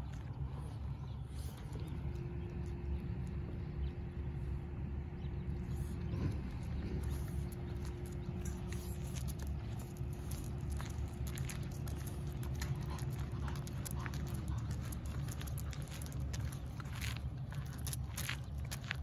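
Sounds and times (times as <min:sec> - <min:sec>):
footsteps on asphalt: 0:00.0 - 0:04.0, 0:05.6 - 0:19.0
dog paws clicking on asphalt: 0:00.0 - 0:19.0
low rumble: 0:00.0 - 0:19.0.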